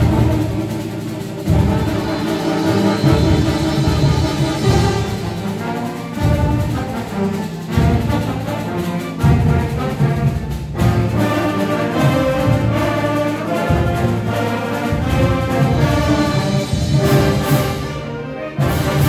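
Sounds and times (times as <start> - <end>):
concert band playing: 0.0 - 19.0.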